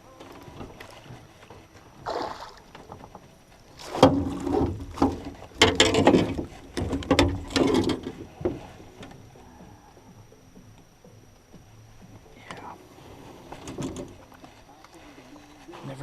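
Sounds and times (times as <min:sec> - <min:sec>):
water splashing around a boat: 0:00.0 - 0:16.0.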